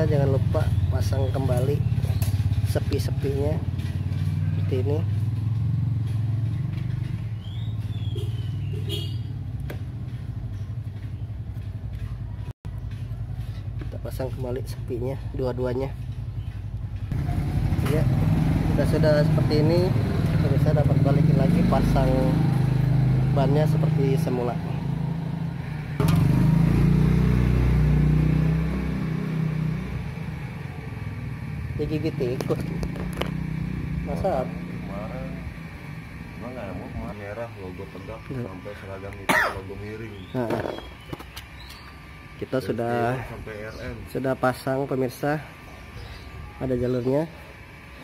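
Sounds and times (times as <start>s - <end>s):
vehicle engine humming: 0.0s - 48.0s.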